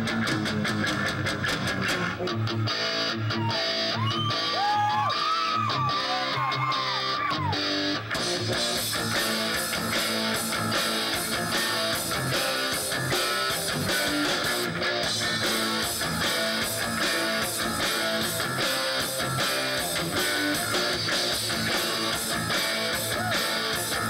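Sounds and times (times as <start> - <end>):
heavy metal band playing live: 0.0 - 24.0
sliding lead guitar line: 0.0 - 24.0.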